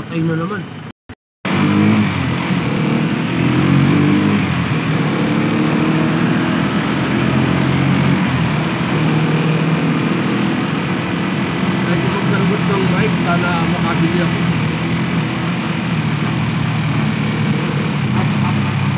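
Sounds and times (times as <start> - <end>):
small vehicle engine running: 1.5 - 18.9.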